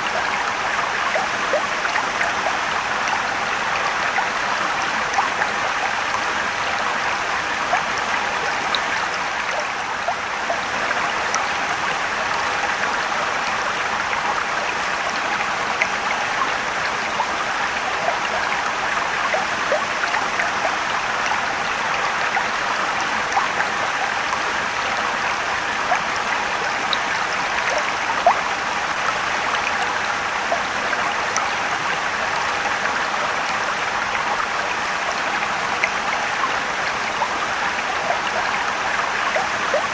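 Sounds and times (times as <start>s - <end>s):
water splashes and drips: 0.0s - 39.9s.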